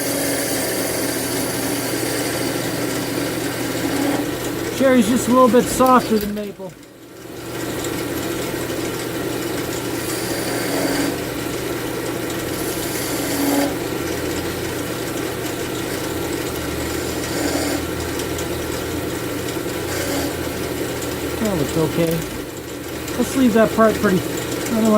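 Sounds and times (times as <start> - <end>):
turning tool cutting wood: 0.0 - 6.8, 7.8 - 24.9
wood lathe motor humming: 0.0 - 24.9.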